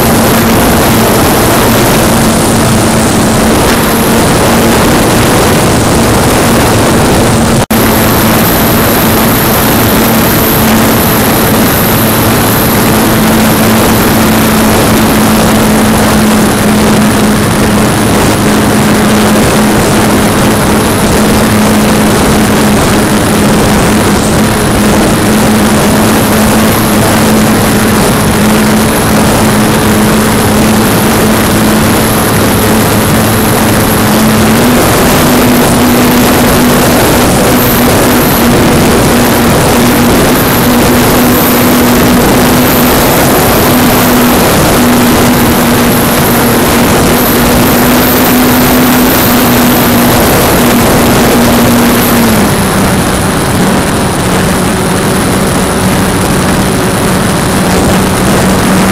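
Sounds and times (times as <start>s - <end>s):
model plane motor and propeller: 0.0s - 58.9s
rush of air: 0.0s - 58.9s.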